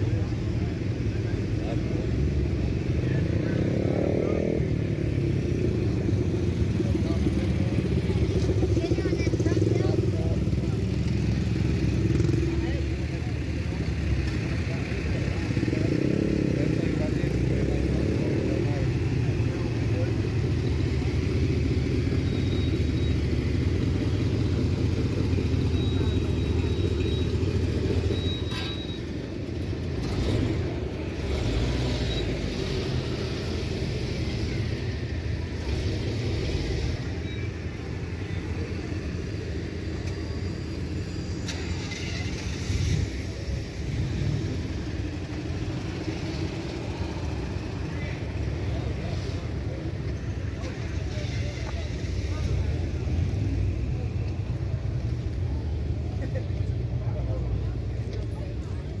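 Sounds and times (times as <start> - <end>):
people talking: 0.0 - 29.1, 30.0 - 59.0
car engine rumbling: 0.0 - 59.0.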